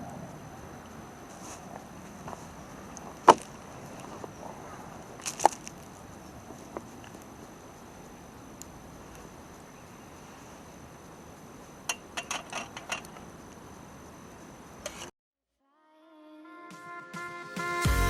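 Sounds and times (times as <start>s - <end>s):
campfire crackling: 0.0s - 14.8s.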